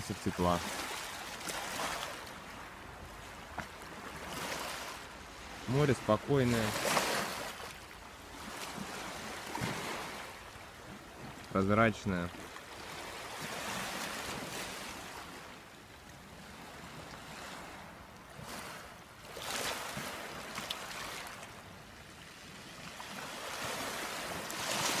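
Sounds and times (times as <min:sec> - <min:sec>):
small waves lapping on pebbles: 0:00.0 - 0:11.7, 0:12.3 - 0:25.0.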